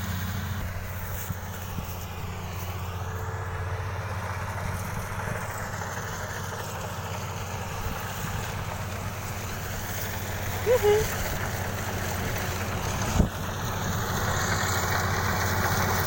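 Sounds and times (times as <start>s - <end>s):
combine harvester engine hum: 0.0s - 16.0s.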